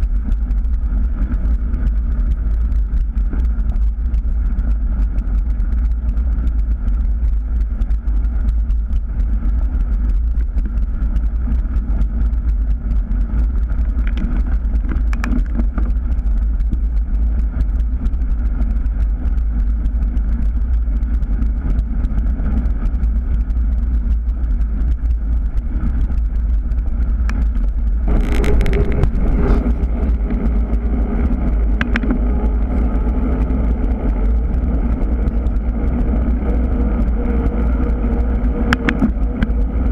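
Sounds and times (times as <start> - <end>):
bicycle tyre noise: 0.0 - 39.9
faint steady hum: 0.0 - 39.9
wind rumble: 0.0 - 39.9.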